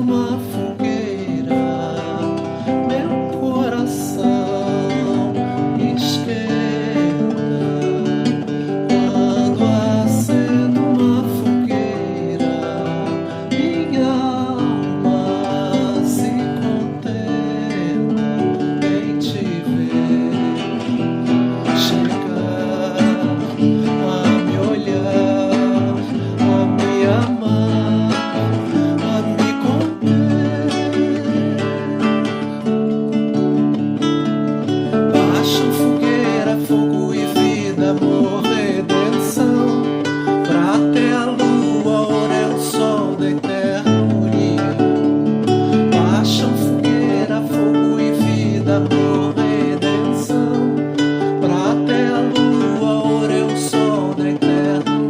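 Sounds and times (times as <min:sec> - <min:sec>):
acoustic guitar plucked and strummed: 0:00.0 - 0:55.0
person singing: 0:00.0 - 0:55.0.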